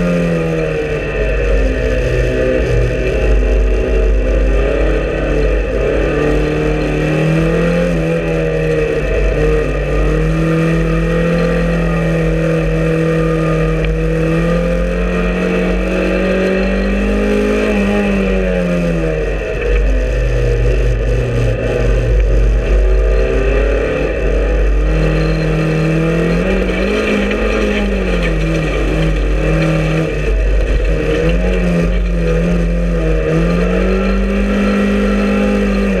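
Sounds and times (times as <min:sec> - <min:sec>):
race car engine revving: 0:00.0 - 0:36.0
road and tyre noise: 0:00.0 - 0:36.0.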